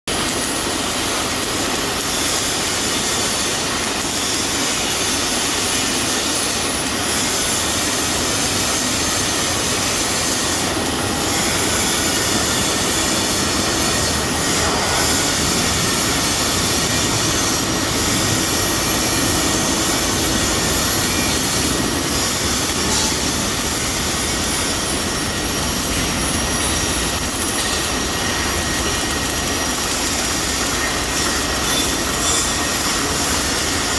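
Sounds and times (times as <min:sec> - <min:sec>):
welding machine hiss: 0:00.1 - 0:33.9.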